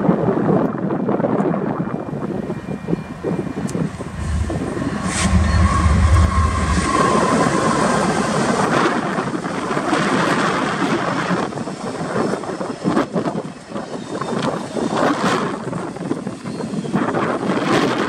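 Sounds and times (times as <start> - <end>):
diesel locomotive engine rumble: 0.0 - 18.0
train wheels rattling on rails: 2.3 - 18.0.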